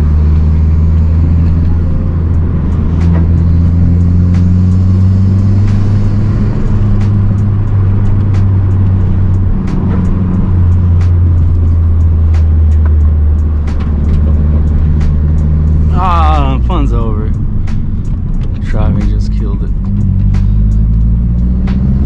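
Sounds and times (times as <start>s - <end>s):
car engine droning while driving: 0.0s - 22.0s.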